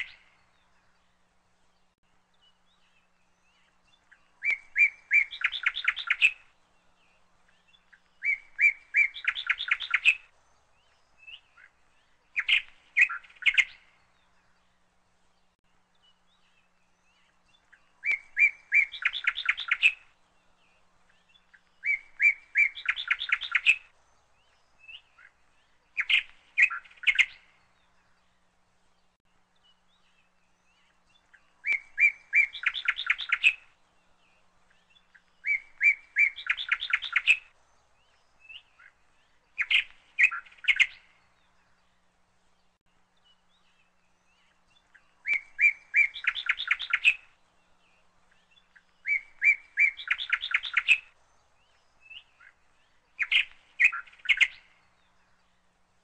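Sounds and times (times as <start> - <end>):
small bird singing: 0.0 - 56.0.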